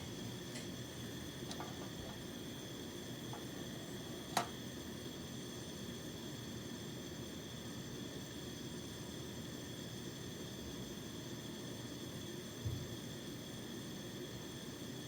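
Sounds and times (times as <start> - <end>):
gas torch flame hissing: 0.0 - 15.0.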